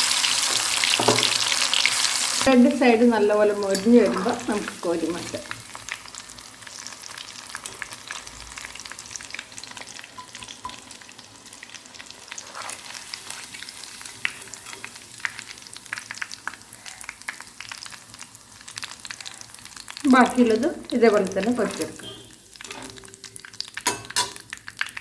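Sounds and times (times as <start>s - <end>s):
fish frying in hot oil: 0.0s - 25.0s.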